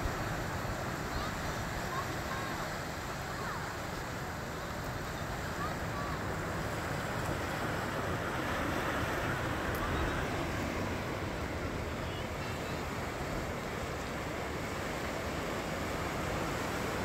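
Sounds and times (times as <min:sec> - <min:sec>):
ocean surf on rocky shore: 0:00.0 - 0:17.0.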